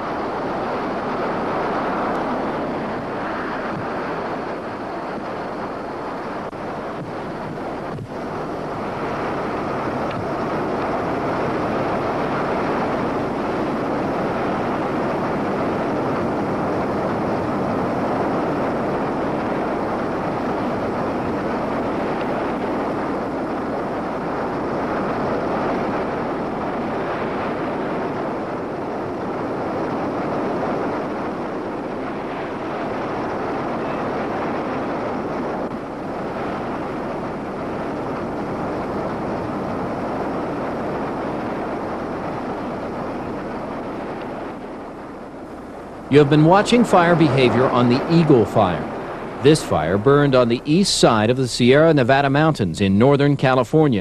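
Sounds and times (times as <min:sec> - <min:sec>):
wildfire roaring: 0:00.0 - 0:54.0
wind on microphone: 0:00.0 - 0:54.0.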